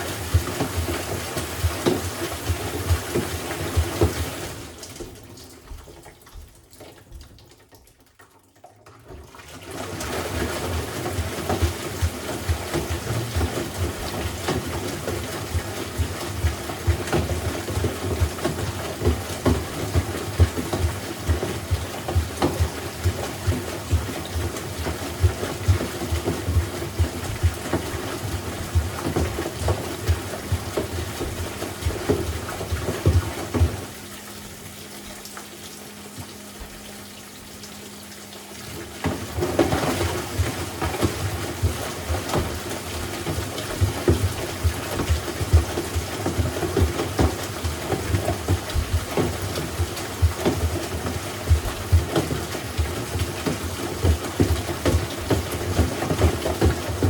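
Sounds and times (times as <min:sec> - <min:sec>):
object knocking in washer drum: 0:00.0 - 0:06.5, 0:09.2 - 0:34.1, 0:38.8 - 0:57.0
washing machine hum: 0:00.0 - 0:57.0
water sloshing in washer drum: 0:00.0 - 0:57.0.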